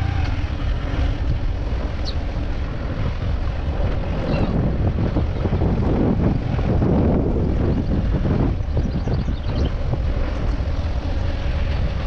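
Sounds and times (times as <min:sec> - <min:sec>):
motorcycle engine: 0:00.0 - 0:12.0
road noise: 0:00.0 - 0:12.0
wind buffeting microphone: 0:00.0 - 0:12.0.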